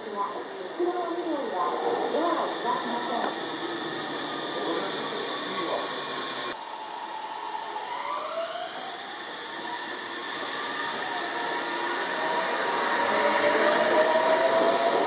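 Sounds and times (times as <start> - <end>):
train wheel-on-rail rumble: 0.0 - 15.0.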